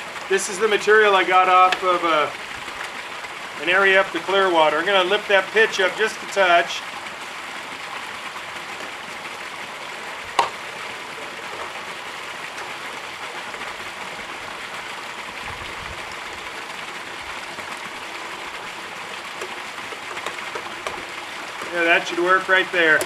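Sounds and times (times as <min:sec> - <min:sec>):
water splashing into plastic tub: 0:00.0 - 0:23.0.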